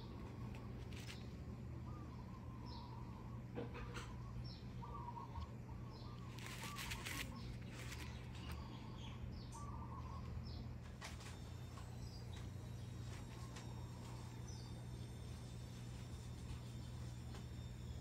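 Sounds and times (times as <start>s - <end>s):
small birds chirping: 0.0s - 17.2s
steady low hum: 0.0s - 18.0s.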